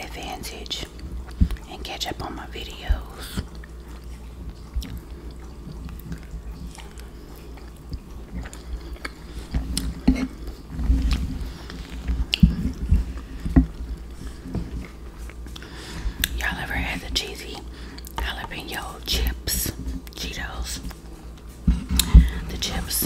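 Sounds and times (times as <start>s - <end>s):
wet chewing sounds: 0.2s - 23.0s.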